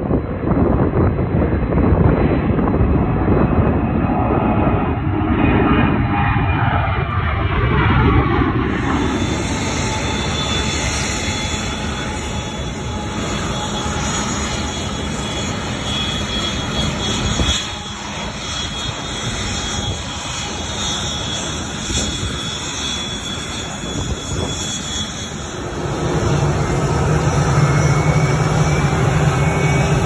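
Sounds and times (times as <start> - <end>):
jet engines rushing: 0.0 - 30.0.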